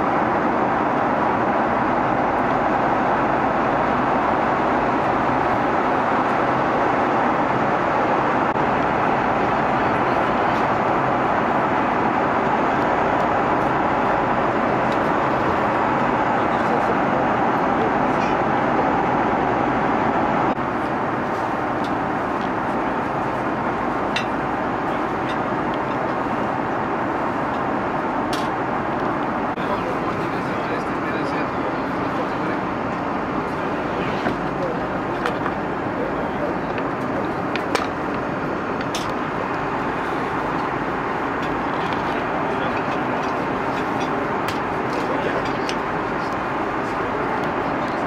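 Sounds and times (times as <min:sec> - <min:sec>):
airplane cabin engine noise: 0:00.0 - 0:48.0.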